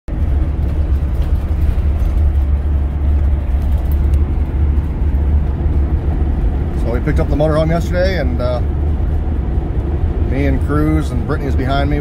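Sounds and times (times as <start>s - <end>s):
road noise: 0.0s - 12.0s
engine rumble inside vehicle cab: 0.1s - 12.0s.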